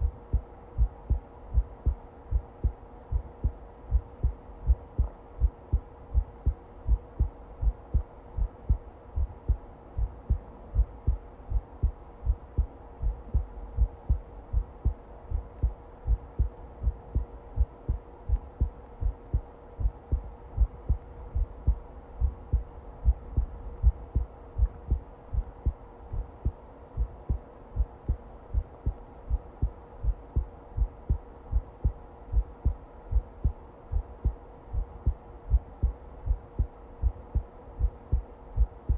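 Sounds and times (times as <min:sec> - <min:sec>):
faint steady hum: 0:00.0 - 0:38.9
heartbeat thumps: 0:00.0 - 0:38.9.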